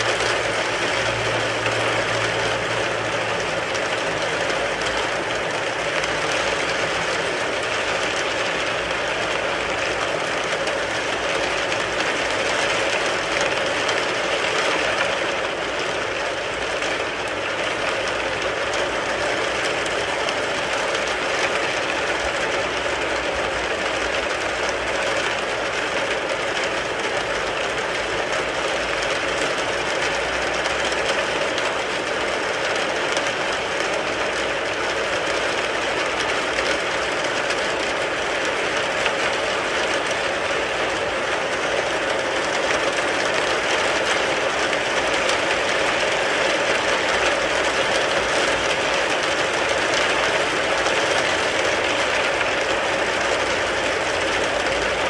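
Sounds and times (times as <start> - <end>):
heavy rain on a car: 0.0 - 55.0.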